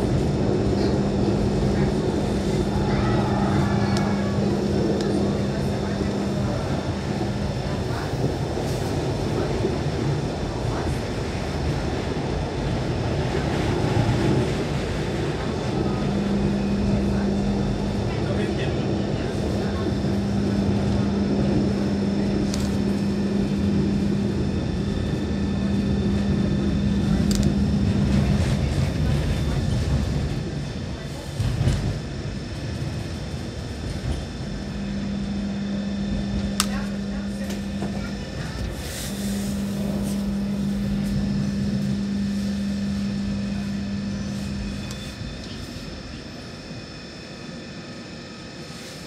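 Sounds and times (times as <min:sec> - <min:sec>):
tram hum and rumble: 0:00.0 - 0:49.0.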